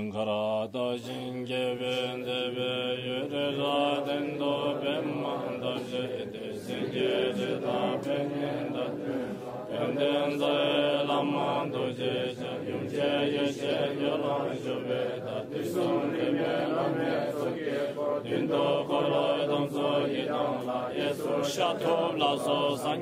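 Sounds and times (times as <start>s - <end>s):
person chanting prayers: 0.0s - 23.0s.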